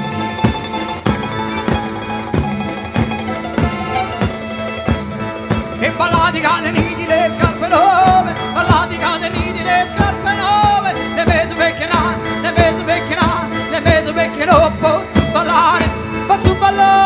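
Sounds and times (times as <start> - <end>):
driving beat: 0.0 - 17.0
ornamented folk melody: 0.0 - 17.0.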